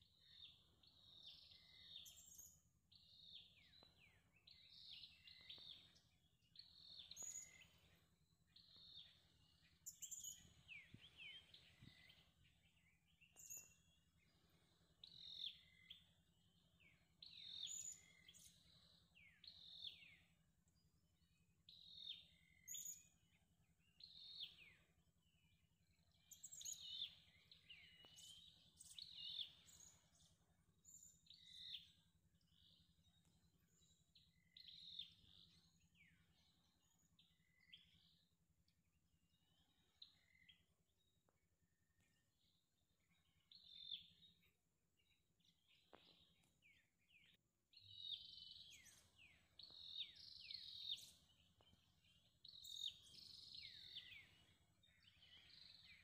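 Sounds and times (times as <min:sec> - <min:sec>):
birds chirping: 0:00.1 - 0:20.3, 0:23.8 - 0:38.2, 0:42.0 - 0:56.0.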